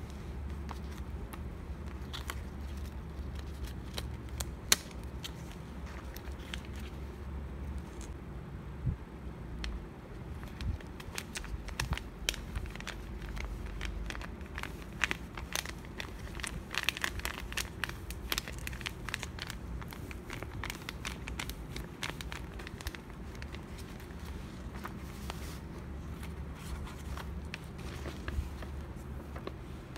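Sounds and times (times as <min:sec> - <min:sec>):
paper crinkling and crackling: 0:00.0 - 0:08.2, 0:10.3 - 0:29.9.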